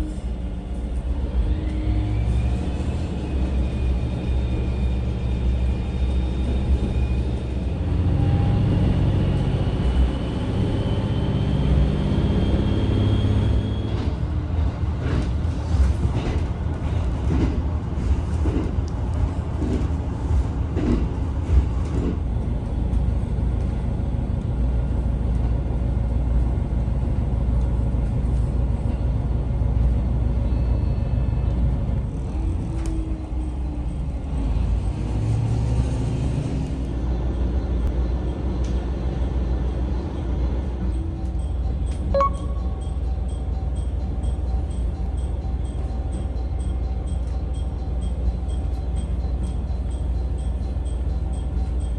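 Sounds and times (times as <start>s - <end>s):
train rumbling with rising whine: 0.0s - 51.9s.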